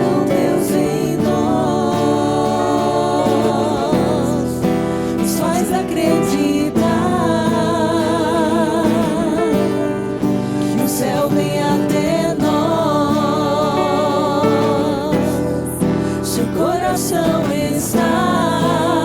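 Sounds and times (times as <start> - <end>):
person singing sustained notes: 0.0 - 19.0
worship song with instruments: 0.0 - 19.0.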